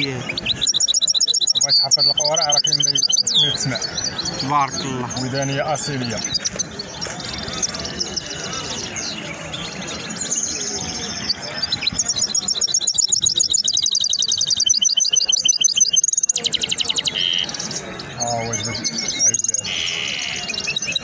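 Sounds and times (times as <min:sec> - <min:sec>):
songbird chirping and trilling: 0:00.0 - 0:21.0.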